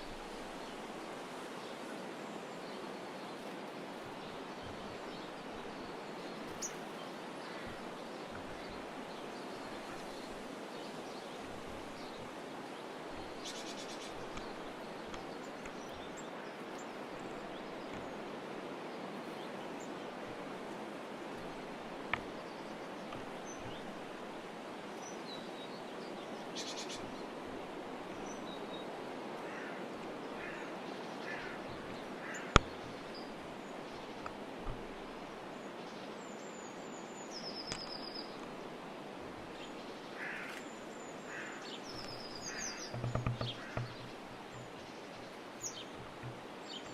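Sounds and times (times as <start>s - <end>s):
outdoor background hiss: 0.0s - 46.9s
small birds chirping: 2.6s - 46.9s.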